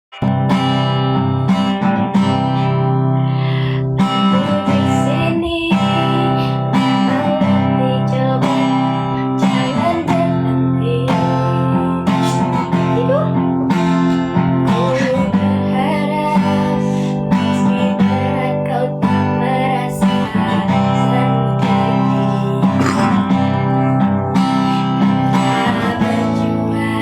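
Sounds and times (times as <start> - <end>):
acoustic guitar strumming chords: 0.1 - 27.0.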